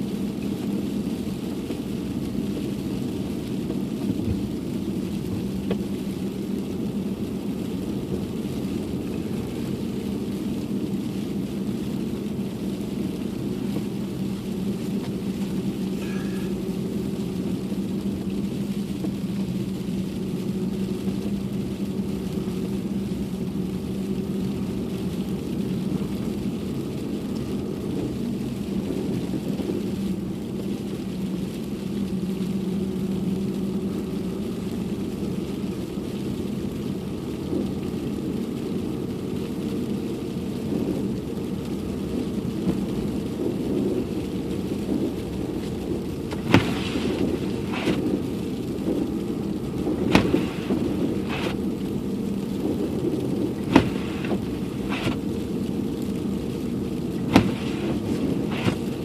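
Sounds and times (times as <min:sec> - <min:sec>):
car engine and road hum: 0:00.0 - 0:59.0.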